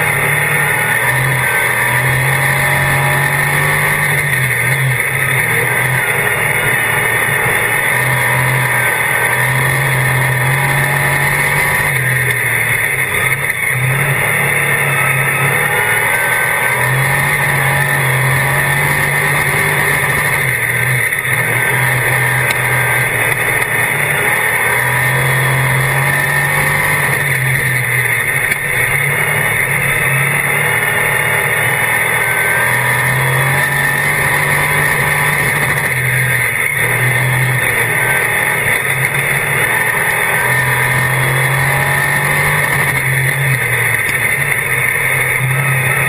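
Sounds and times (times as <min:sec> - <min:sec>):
racing car engine: 0:00.0 - 0:46.0.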